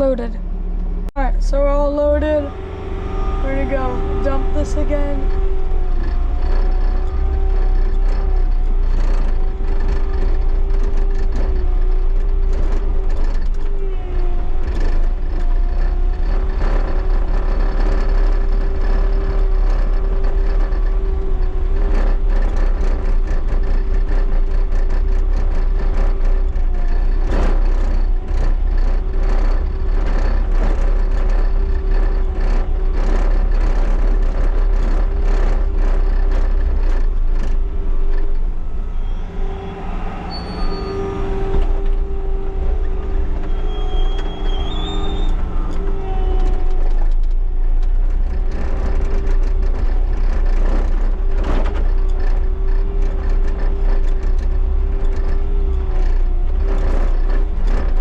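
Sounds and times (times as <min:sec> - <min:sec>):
constant whine: 0:00.0 - 0:58.0
diesel engine running under load: 0:00.0 - 0:58.0
knocks and rattles: 0:01.6 - 0:58.0.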